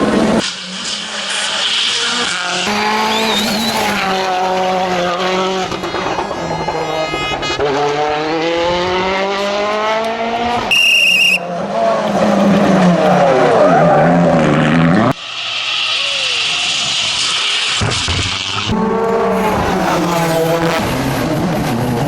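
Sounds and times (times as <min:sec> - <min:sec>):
rally car engine revving: 0:00.0 - 0:15.6, 0:16.5 - 0:22.0
high-pitched tyre squeal: 0:00.5 - 0:08.4, 0:09.3 - 0:22.0.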